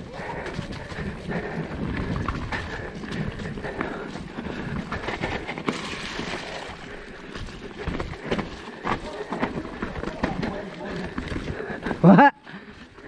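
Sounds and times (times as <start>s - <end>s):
bike tyre noise: 0.0s - 12.1s.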